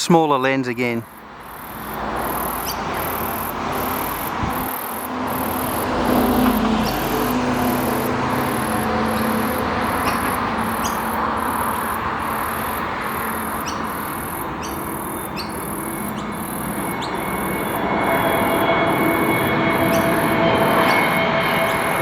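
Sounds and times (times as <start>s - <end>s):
jet engines whining rush: 0.0s - 22.0s.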